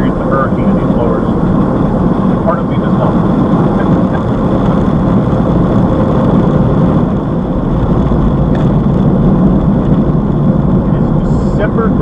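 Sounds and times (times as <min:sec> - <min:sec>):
car wash dryer blowers: 0:00.0 - 0:12.0.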